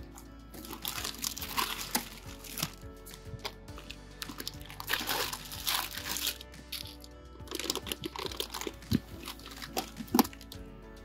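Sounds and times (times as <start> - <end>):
soft background music: 0.0 - 11.0
plastic packaging crinkling: 0.6 - 10.6.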